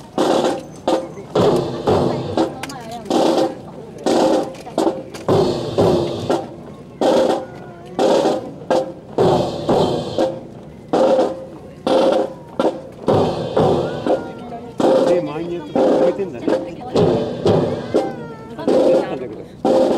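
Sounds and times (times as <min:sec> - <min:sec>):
drum beating marching time: 0:00.0 - 0:19.9.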